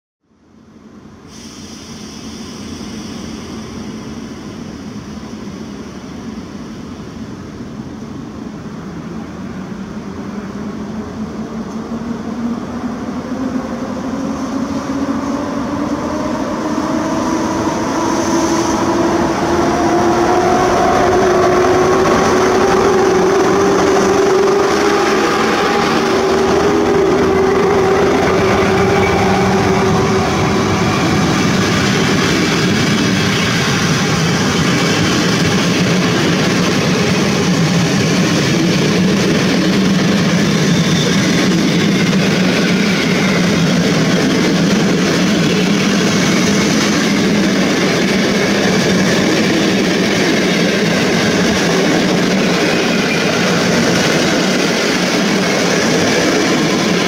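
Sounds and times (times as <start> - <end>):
train wheels rumbling on rails: 1.0 - 57.0.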